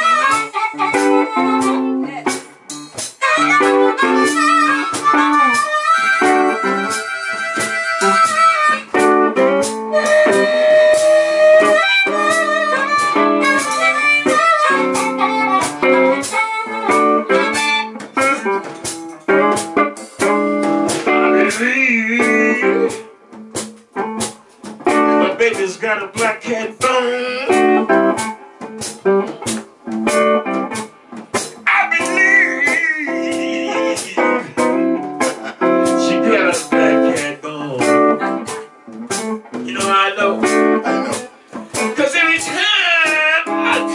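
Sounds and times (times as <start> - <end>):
blues harmonica solo: 0.0 - 43.9.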